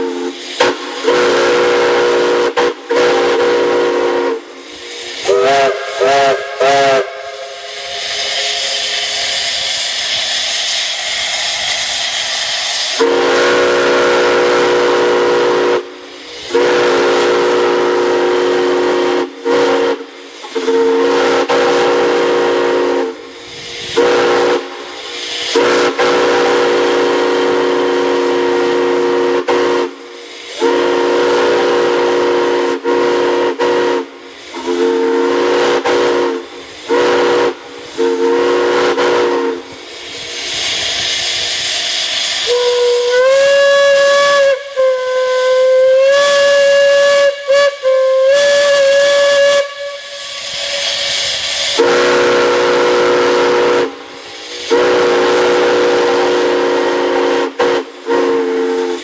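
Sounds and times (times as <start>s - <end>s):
steam hissing: 0.0s - 59.0s
steam whistle blasts: 0.0s - 59.0s.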